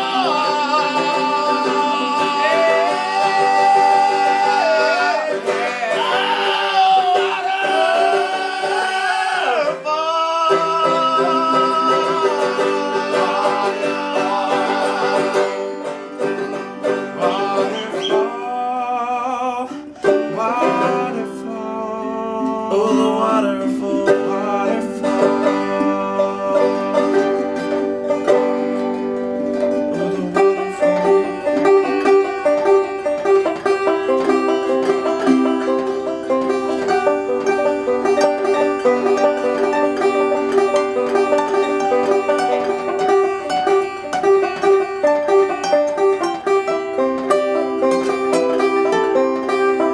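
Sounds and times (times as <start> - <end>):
song with plucked strings and singing: 0.0 - 49.9.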